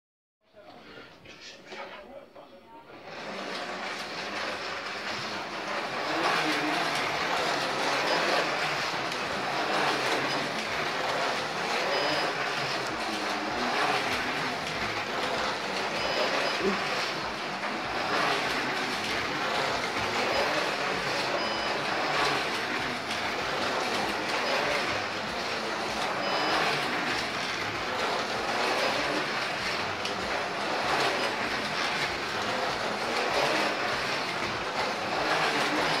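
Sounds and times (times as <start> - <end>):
slot car motors whirring: 2.8 - 36.0.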